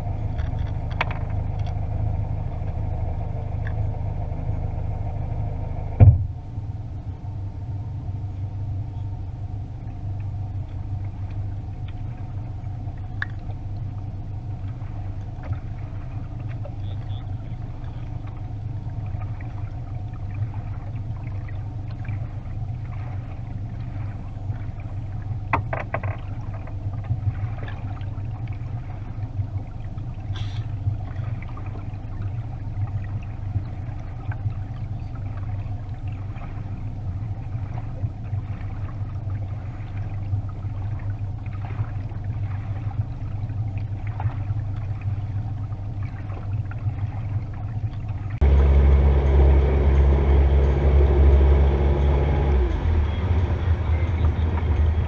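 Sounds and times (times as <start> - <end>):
boat motor humming: 0.0 - 55.0.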